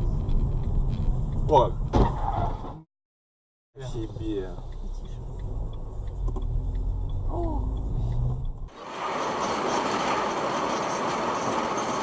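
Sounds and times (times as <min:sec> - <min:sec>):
car engine rumble: 0:00.0 - 0:02.8, 0:03.8 - 0:12.0
road noise: 0:00.0 - 0:02.8, 0:03.8 - 0:12.0.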